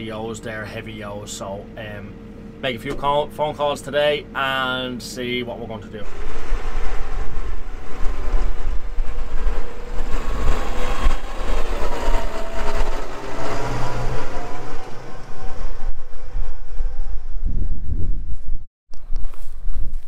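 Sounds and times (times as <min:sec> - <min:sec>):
tractor engine rumbling: 0:00.0 - 0:17.6
steady whine: 0:00.0 - 0:18.5.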